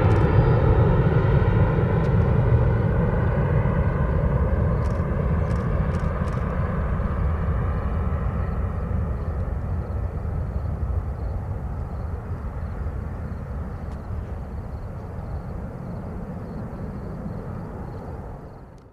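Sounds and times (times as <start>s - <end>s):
jet engine rumble: 0.0s - 18.9s.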